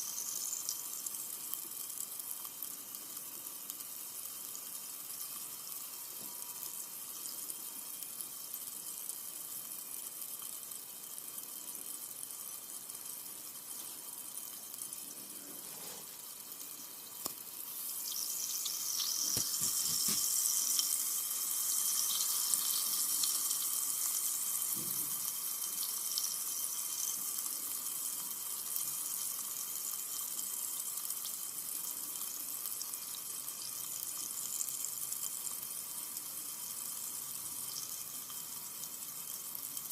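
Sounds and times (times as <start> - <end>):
soda fizzing: 0.0 - 39.9.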